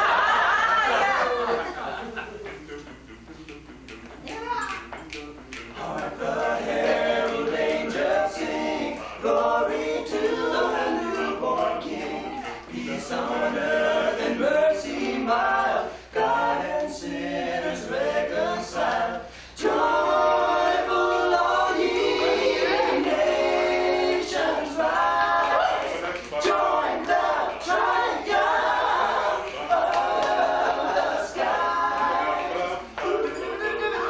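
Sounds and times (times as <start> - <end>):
men singing in harmony: 5.3 - 34.0.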